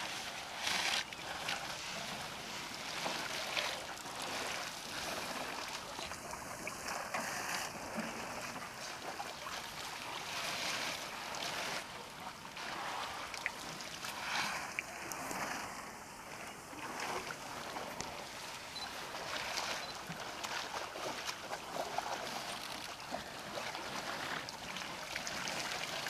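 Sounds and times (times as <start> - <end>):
water splashing and sloshing: 0.0 - 26.0.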